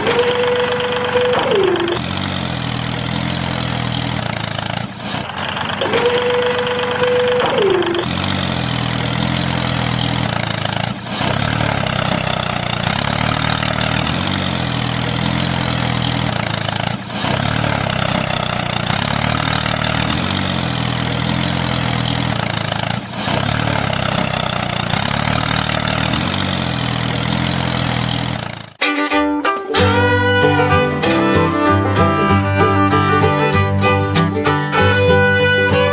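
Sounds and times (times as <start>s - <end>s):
tractor engine idling: 0.0s - 28.8s, 29.7s - 35.9s.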